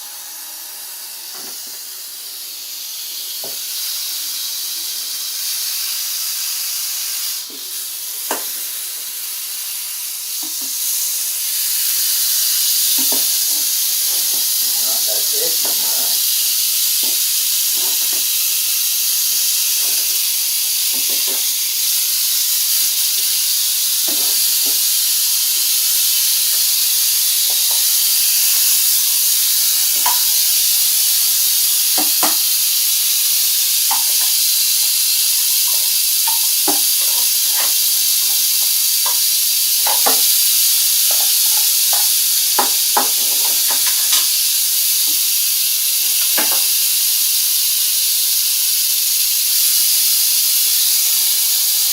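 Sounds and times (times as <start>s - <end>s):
rattlesnake rattling: 0.0s - 51.9s.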